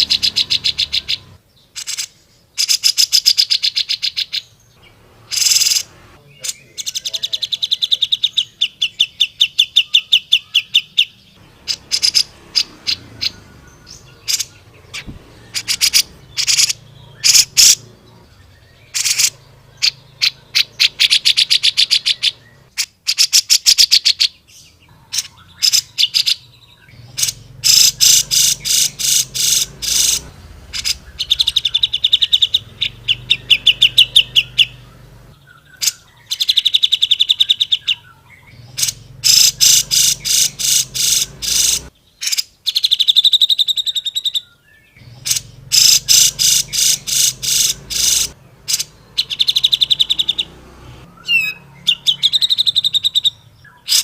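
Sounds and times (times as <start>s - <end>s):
bird singing trilled chirps: 0.0s - 54.0s.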